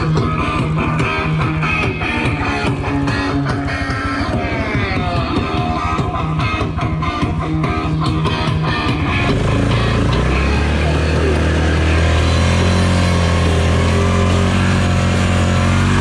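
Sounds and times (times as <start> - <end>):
guitar music: 0.0 - 16.0
quad bike engine accelerating: 0.0 - 16.0.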